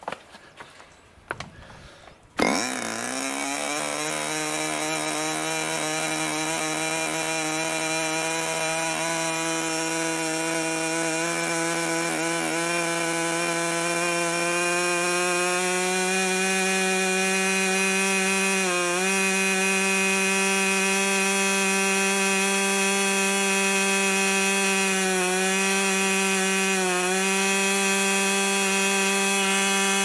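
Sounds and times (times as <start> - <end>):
electric starter: 2.4 - 30.0
model engine buzzing: 2.4 - 30.0.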